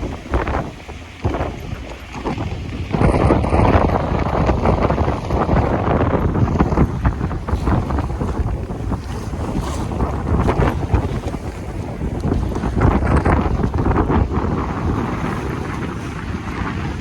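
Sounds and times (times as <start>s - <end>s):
water washing along hull: 0.0s - 17.0s
wind buffeting microphone: 0.0s - 17.0s.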